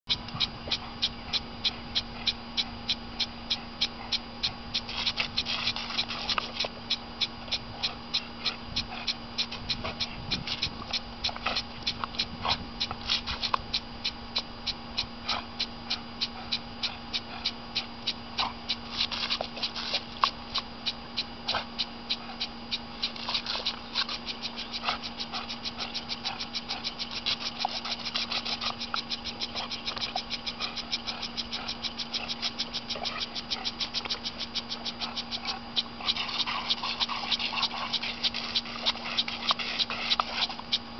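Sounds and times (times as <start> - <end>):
lawn sprinkler arm ticking: 0.1 - 40.9
steady low hum: 0.1 - 40.9.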